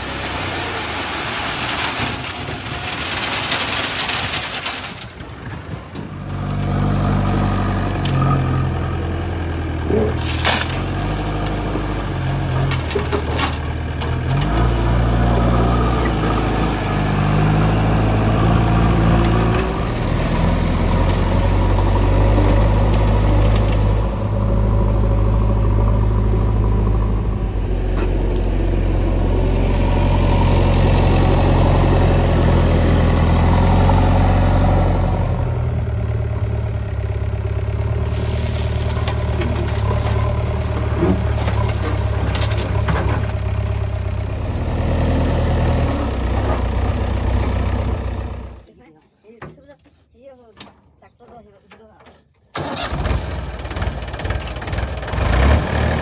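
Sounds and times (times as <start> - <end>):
diesel engine running: 0.0 - 48.7, 52.6 - 56.0.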